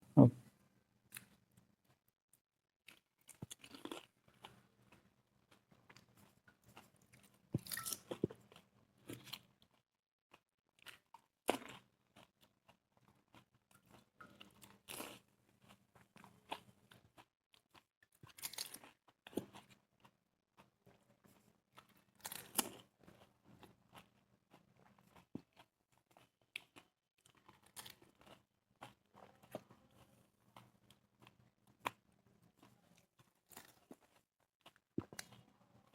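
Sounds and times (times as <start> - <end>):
quiet chewing: 2.8 - 35.9.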